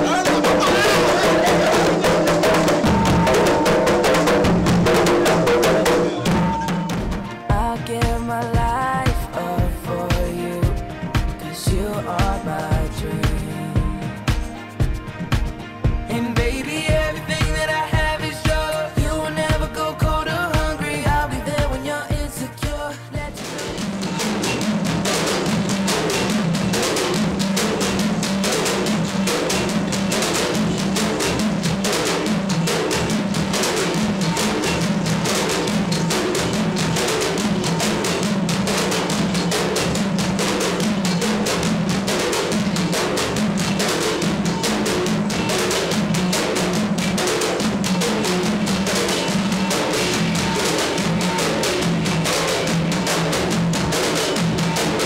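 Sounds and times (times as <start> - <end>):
frame drums beating fast: 0.0 - 55.0.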